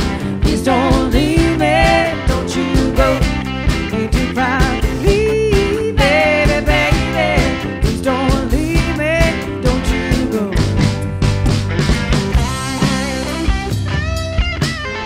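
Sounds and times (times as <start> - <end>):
bass: 0.0 - 15.0
drums: 0.0 - 15.0
lead electric guitar with bent notes: 0.0 - 15.0.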